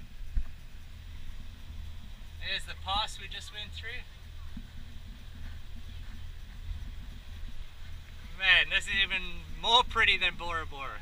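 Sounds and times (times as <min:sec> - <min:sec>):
boat engine rumble: 0:00.0 - 0:11.0
wind buffeting microphone: 0:00.0 - 0:11.0.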